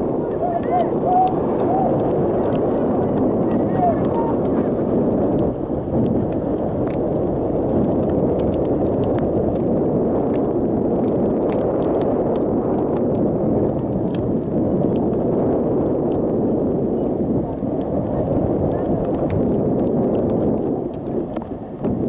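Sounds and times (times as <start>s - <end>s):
wind buffeting microphone: 0.0s - 22.0s
light ticks: 0.2s - 4.6s, 5.2s - 15.2s, 17.8s - 22.0s.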